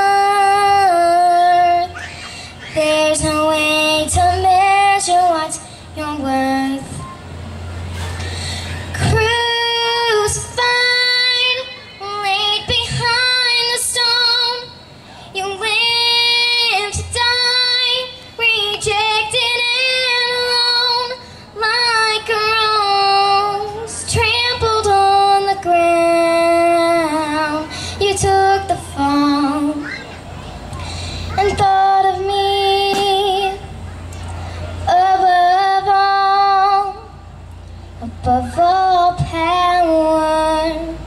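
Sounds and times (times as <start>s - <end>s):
girl singing gospel through pa: 0.0s - 7.3s, 8.6s - 30.0s, 30.7s - 33.9s, 34.7s - 37.4s, 38.0s - 41.0s.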